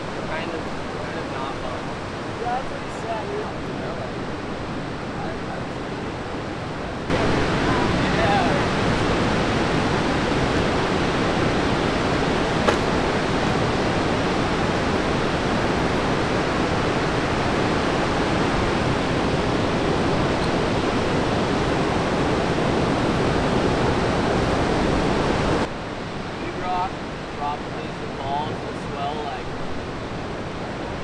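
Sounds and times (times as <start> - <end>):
heavy ocean surf breaking: 0.0 - 31.0.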